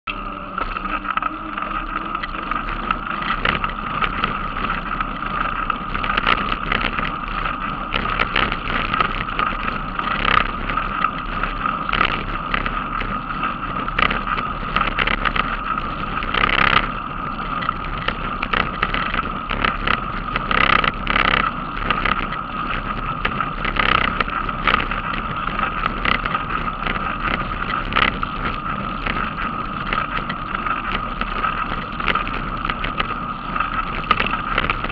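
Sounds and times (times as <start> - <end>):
bicycle tyres rolling on asphalt: 0.0 - 34.9
bicycle knocks and rattles: 0.1 - 34.9.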